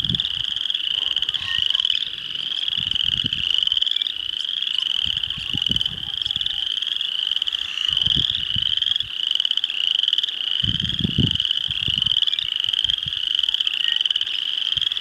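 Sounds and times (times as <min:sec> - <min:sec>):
frogs trilling: 0:00.0 - 0:15.0.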